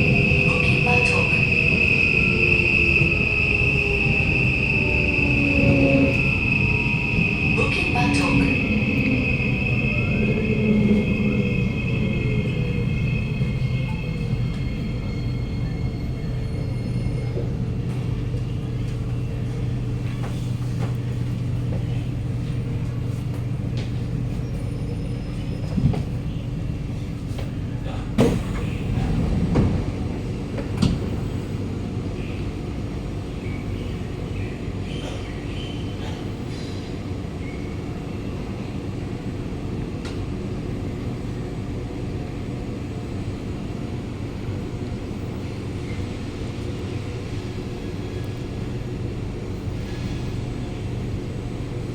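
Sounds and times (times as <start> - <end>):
metro car low hum: 0.0 - 51.9.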